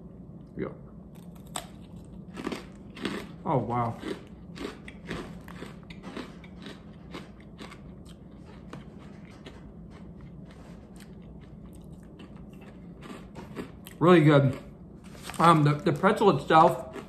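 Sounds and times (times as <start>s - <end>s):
crunchy chewing: 1.1s - 17.0s.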